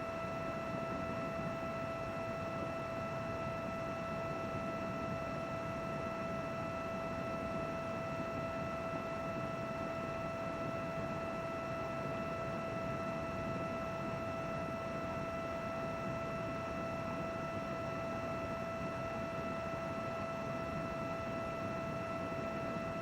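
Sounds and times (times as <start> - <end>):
computer cooling fans blowing: 0.0 - 23.0.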